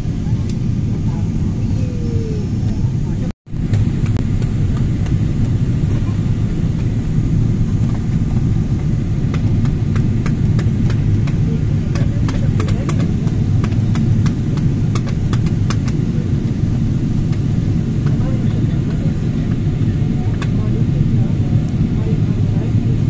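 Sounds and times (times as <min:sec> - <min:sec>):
jet cabin engine roar: 0:00.0 - 0:23.0.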